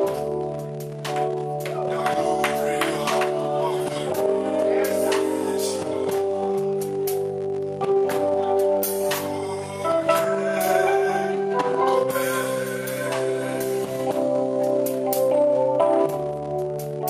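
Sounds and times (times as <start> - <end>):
instrumental worship music: 0.0 - 17.0.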